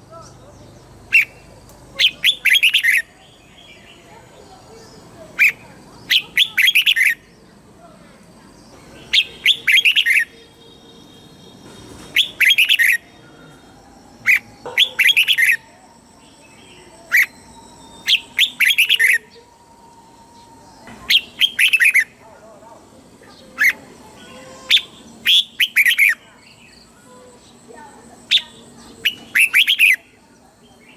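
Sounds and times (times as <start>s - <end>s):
bird singing bright notes: 0.2s - 7.4s, 8.7s - 22.2s, 23.3s - 30.9s.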